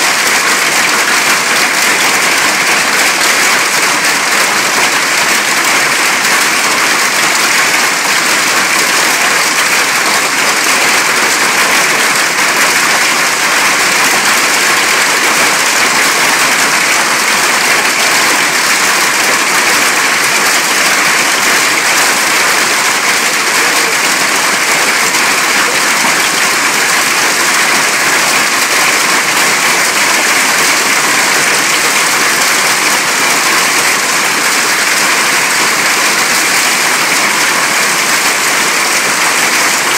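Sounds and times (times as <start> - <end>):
hail on roof and lawn: 0.0 - 39.9.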